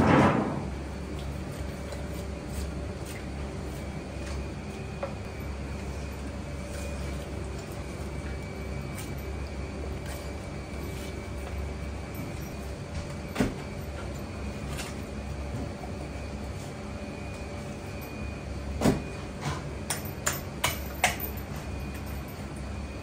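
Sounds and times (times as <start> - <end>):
steady kitchen hum: 0.0 - 23.0.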